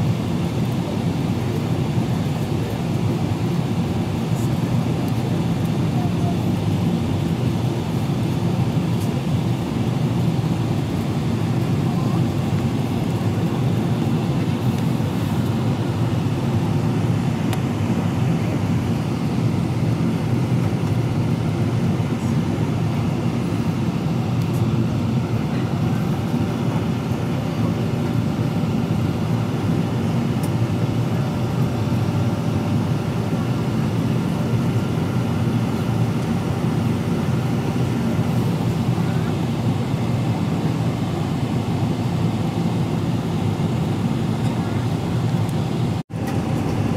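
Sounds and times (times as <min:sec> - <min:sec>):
airliner cabin engine drone: 0:00.0 - 0:46.9.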